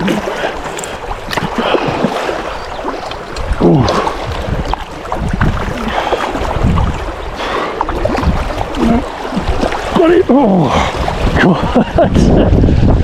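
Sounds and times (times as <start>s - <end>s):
water splashing and sloshing: 0.0s - 13.0s
wind buffeting the microphone: 0.0s - 13.0s.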